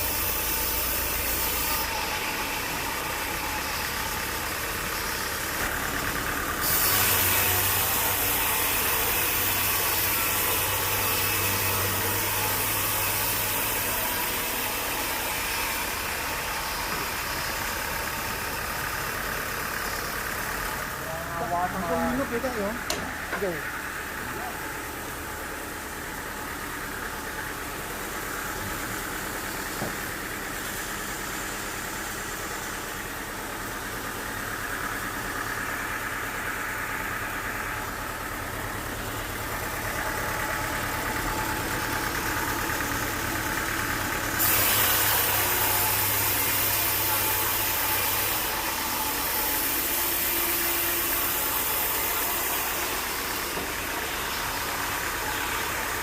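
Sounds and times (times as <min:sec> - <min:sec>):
high-pitched machine noise: 0:00.0 - 0:56.0
sawmill machinery running: 0:00.0 - 0:56.0.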